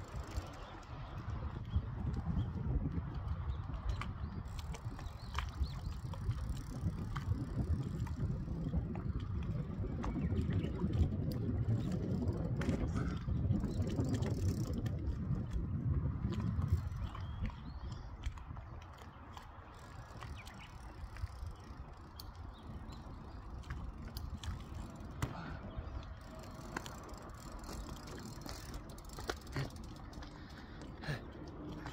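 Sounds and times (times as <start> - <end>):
bike rolling on asphalt: 0.0 - 31.9.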